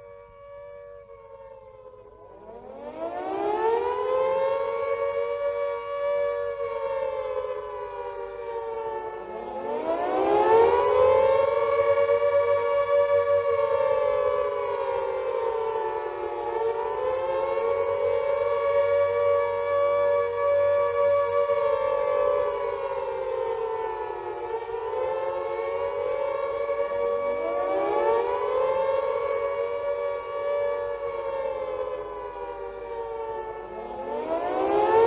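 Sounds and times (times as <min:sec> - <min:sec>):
rising and falling air raid siren: 0:00.0 - 0:35.0.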